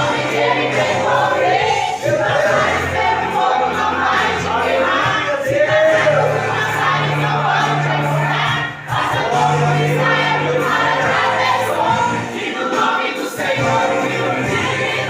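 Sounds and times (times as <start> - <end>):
band playing: 0.0 - 12.9
group singing worship song: 0.0 - 15.0.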